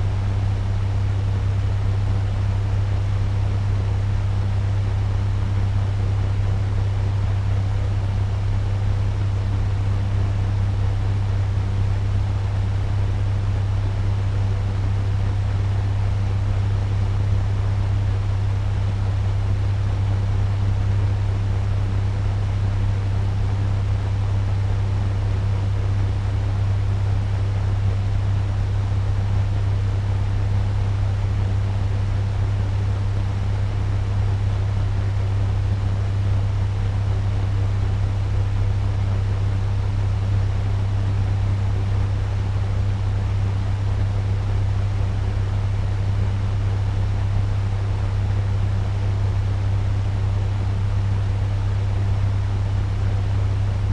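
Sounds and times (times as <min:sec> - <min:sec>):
electric fan running: 0:00.0 - 0:53.9.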